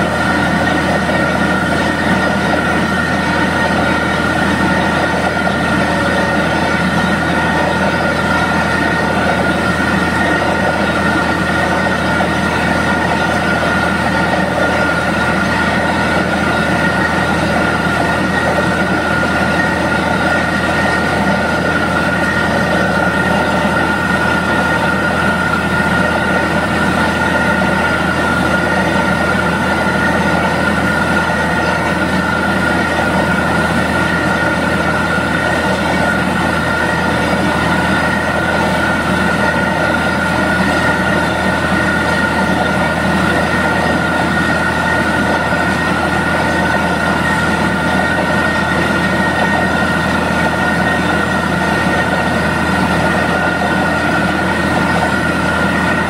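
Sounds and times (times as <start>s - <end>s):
drilling rig running: 0.0s - 56.0s
steady high whine: 0.0s - 56.0s.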